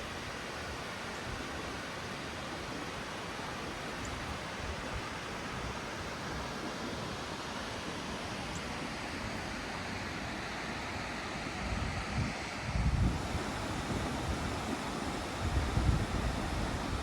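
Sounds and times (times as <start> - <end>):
water rushing over falls: 0.0 - 17.0.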